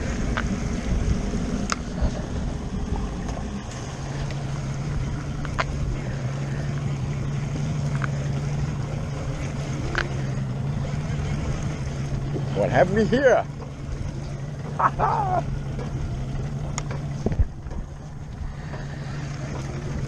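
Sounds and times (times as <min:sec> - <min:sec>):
boat engine running low: 0:00.0 - 0:20.0
water noise: 0:00.0 - 0:20.0
wind: 0:00.0 - 0:20.0.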